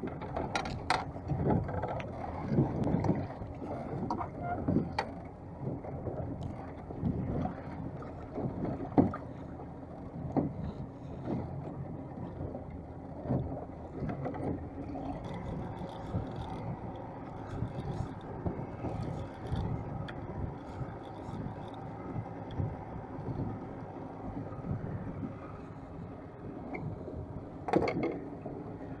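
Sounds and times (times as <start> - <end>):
boat engine drone: 0.0 - 29.0
water knocking and splashing on hull: 0.0 - 29.0.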